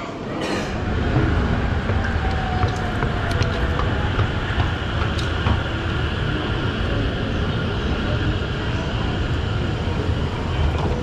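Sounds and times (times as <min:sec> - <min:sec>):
steady low rumble: 0:00.7 - 0:11.0.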